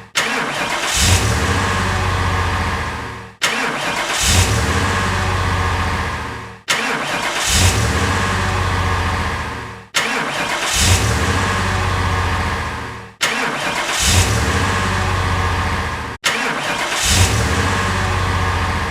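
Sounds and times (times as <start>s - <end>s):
car engine starting and idling: 0.0s - 18.9s.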